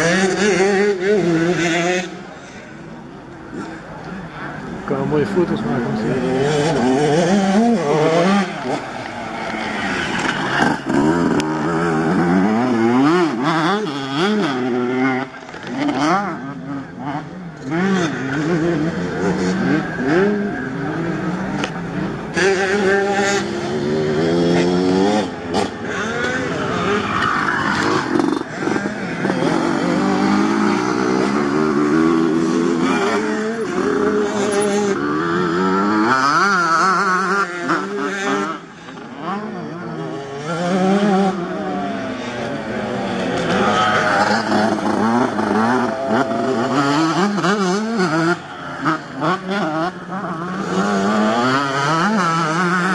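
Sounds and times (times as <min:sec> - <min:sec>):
motocross bikes revving past: 0:00.0 - 0:52.9.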